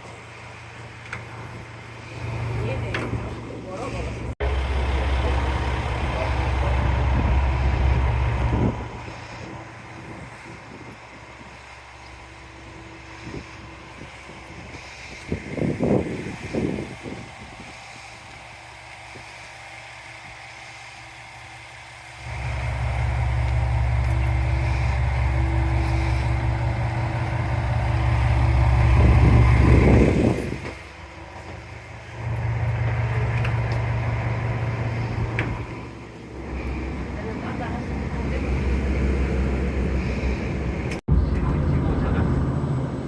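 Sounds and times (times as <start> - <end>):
diesel train rumbling: 0.0 - 43.0.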